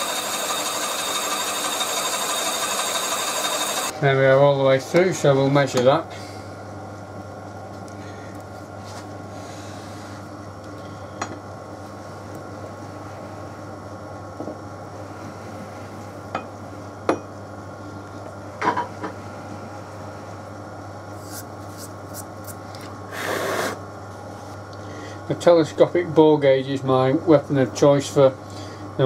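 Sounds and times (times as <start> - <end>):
steady low hum: 2.8 - 29.0.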